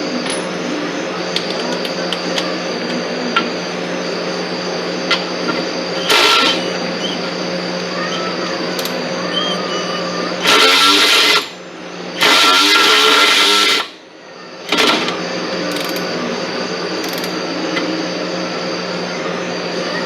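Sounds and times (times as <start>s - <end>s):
power tool running: 0.7s - 18.9s.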